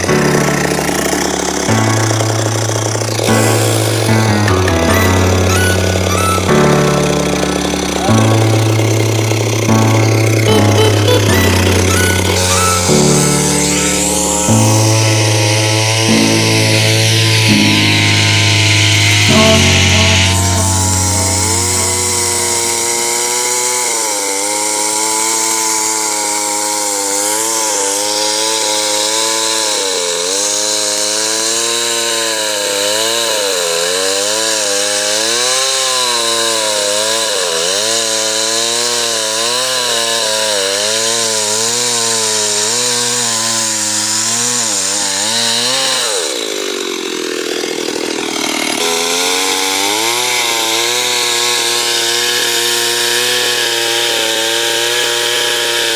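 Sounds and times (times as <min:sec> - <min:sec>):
chainsaw cutting tree: 0:00.0 - 0:55.9.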